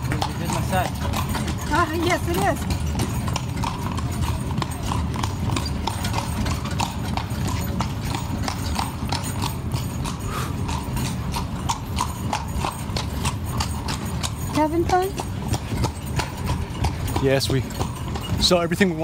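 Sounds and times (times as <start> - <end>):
horse hooves clip-clopping on stone: 0.0 - 19.0.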